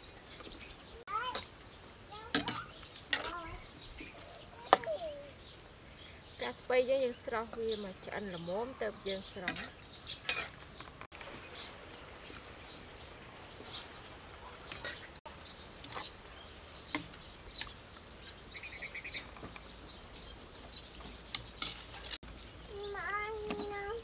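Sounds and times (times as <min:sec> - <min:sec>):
bird chirps: 0:00.0 - 0:23.7
faint outdoor background: 0:00.0 - 0:24.0.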